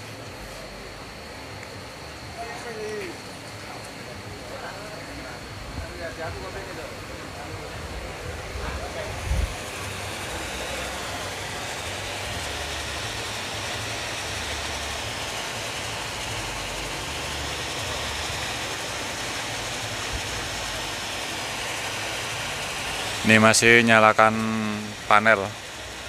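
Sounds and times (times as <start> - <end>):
generator engine hum: 0.0 - 26.0.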